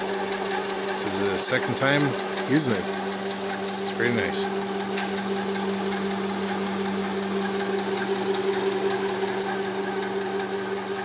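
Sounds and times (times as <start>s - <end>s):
air compressor running: 0.0s - 11.0s
rapid light ticking: 0.0s - 11.0s.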